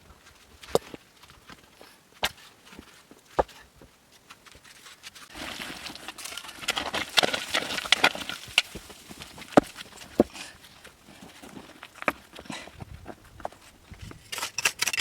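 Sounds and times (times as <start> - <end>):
scraping and rustling: 0.2 - 15.0.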